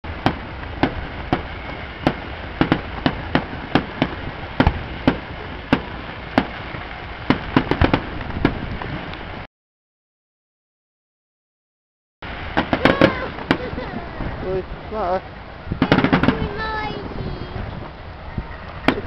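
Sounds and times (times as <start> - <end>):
distant fireworks bangs: 0.1 - 9.4, 12.3 - 19.0
wind noise on microphone: 0.1 - 9.5, 12.2 - 19.0.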